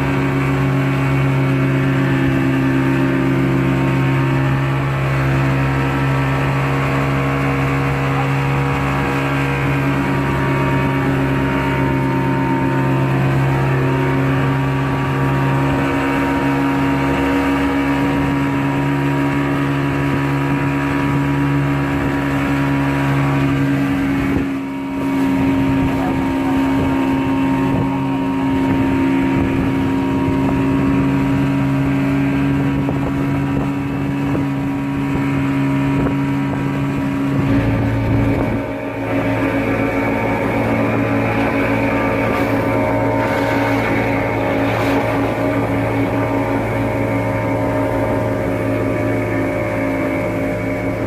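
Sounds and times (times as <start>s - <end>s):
boat engine droning: 0.0s - 51.0s
rushing water: 0.0s - 51.0s.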